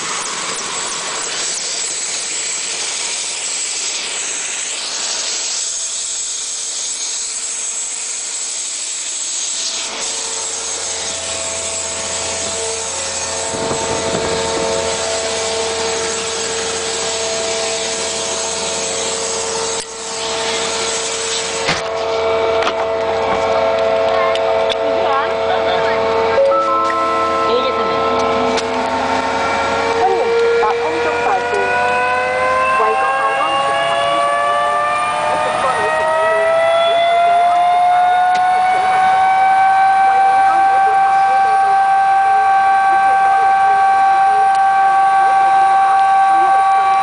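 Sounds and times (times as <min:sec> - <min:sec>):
helicopter engine and rotors: 0:00.0 - 0:47.0
low hum: 0:00.0 - 0:47.0
steady whine: 0:00.0 - 0:47.0.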